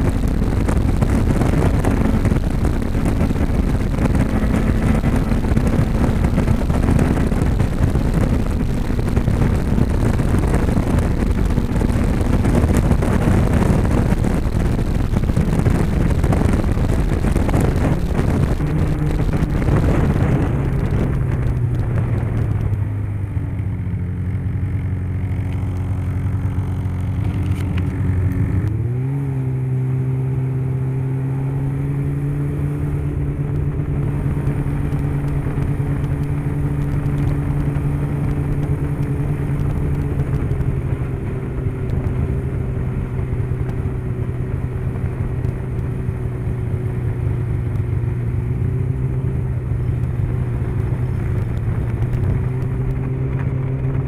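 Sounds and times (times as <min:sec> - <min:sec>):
snowmobile engine running: 0:00.0 - 0:54.0
wind rushing over microphone: 0:00.0 - 0:54.0.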